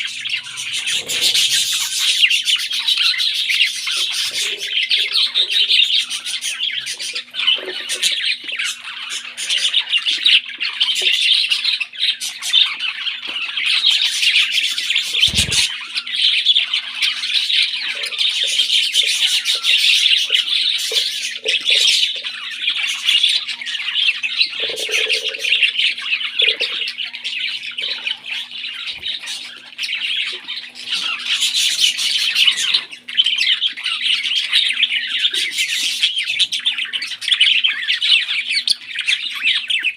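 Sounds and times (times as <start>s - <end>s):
baby parrots squawking: 0.0s - 39.9s.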